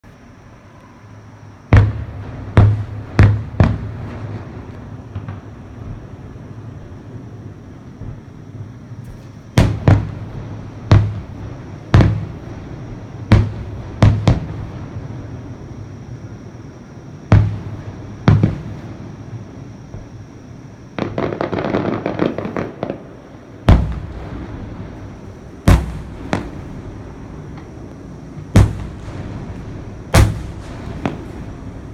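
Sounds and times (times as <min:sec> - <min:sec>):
fireworks bangs: 0:01.7 - 0:07.3, 0:09.0 - 0:31.9
fireworks crackling: 0:01.8 - 0:31.9.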